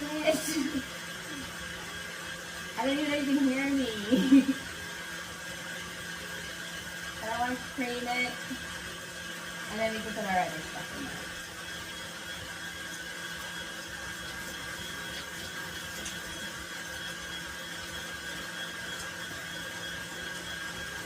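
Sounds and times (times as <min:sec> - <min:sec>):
electric mixer whirring: 0:00.0 - 0:21.0.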